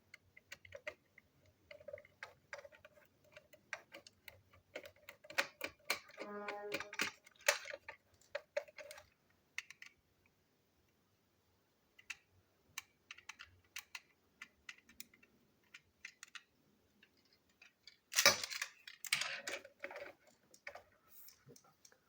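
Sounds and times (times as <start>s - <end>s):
plastic toy train parts clicking: 0.0s - 10.1s, 11.9s - 22.0s.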